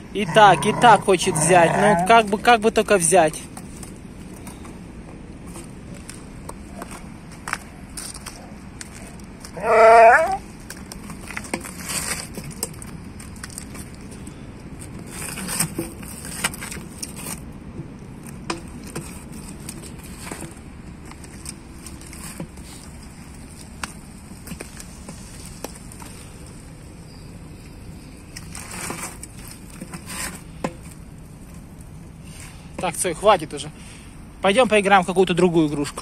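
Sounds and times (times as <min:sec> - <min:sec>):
low background noise: 0:00.0 - 0:36.0.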